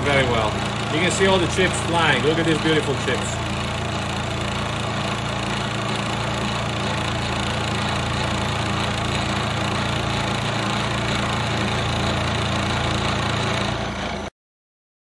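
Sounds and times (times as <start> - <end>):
end mill cutting aluminum hiss: 0.0 - 13.9
milling machine motor hum: 0.0 - 14.3.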